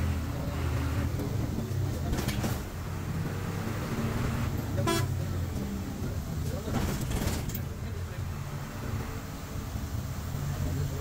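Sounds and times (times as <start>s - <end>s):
bus diesel engine running: 0.0s - 11.0s
road and cabin noise: 0.0s - 11.0s.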